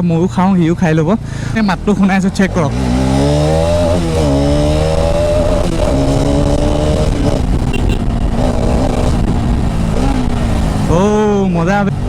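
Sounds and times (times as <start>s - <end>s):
motorcycle engine revving: 0.8s - 12.0s.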